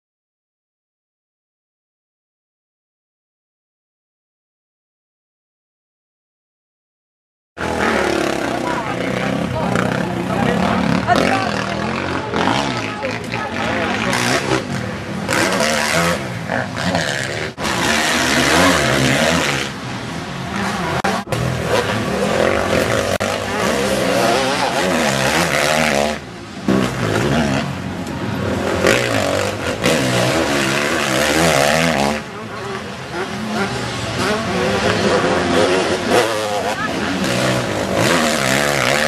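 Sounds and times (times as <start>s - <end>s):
motocross bike engines revving: 7.6s - 39.0s.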